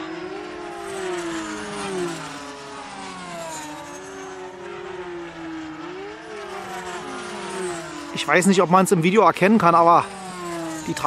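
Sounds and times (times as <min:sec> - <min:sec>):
model plane motors whining: 0:00.0 - 0:11.0.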